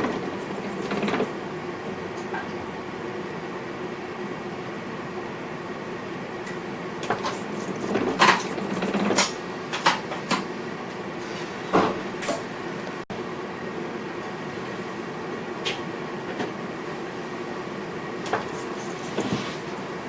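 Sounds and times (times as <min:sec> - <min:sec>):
electric train running hum: 0:00.0 - 0:20.0.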